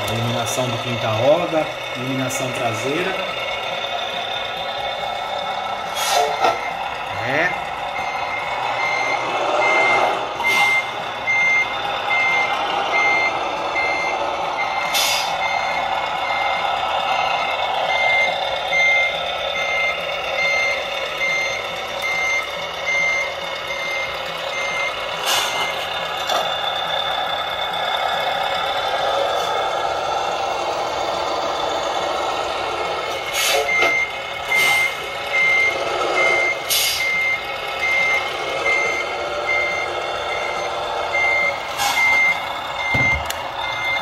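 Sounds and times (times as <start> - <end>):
reversing beeper: 0.0 - 44.0
simulated truck engine running: 0.0 - 44.0.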